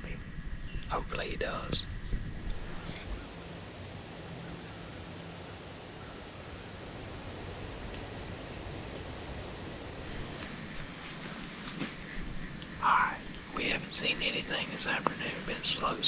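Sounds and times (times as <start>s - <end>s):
insects chirping: 0.0s - 16.0s
low background hiss: 0.0s - 16.0s.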